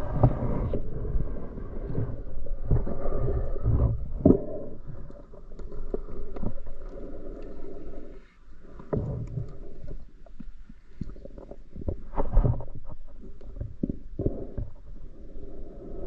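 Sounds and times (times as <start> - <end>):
underwater gurgling and sloshing: 0.0 - 16.0.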